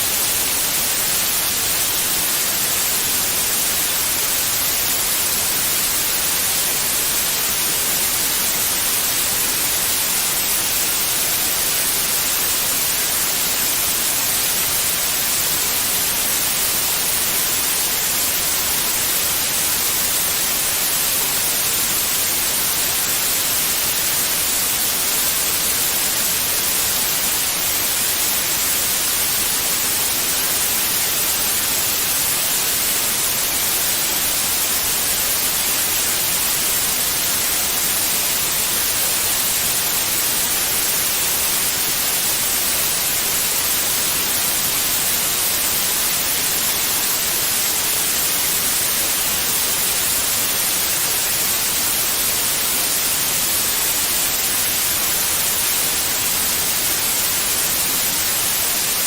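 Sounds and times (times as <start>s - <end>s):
white noise static: 0.0s - 59.0s.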